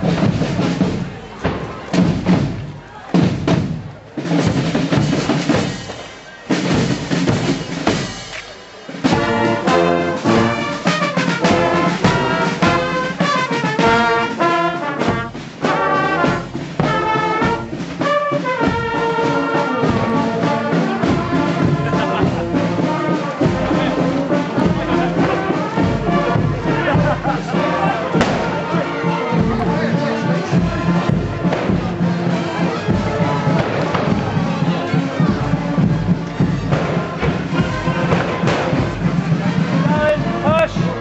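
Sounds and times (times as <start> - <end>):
drums beating: 0.0 - 41.0
brass instruments playing tune: 4.3 - 41.0.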